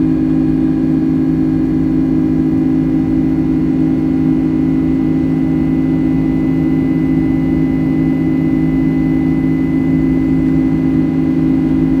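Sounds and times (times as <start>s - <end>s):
faint high whine: 0.0s - 12.0s
jet engine drone in cabin: 0.0s - 12.0s.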